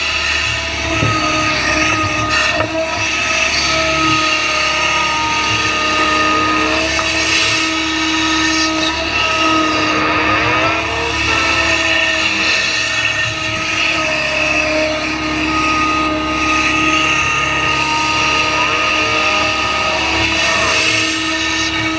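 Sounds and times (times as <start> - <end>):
excavator diesel engine running: 0.0 - 21.9
whining hydraulic pump: 0.0 - 21.9.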